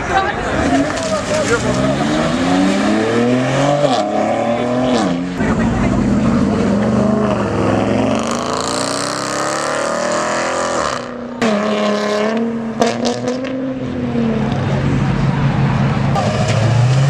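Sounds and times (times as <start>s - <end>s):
car engine accelerating hard: 0.4s - 17.0s.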